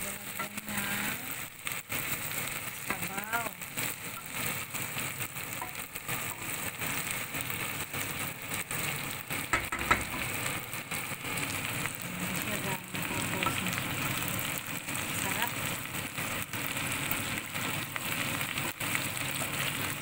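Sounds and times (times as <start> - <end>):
chicken sizzling in oil: 0.0 - 20.0
wooden spoon stirring in pot: 0.2 - 20.0.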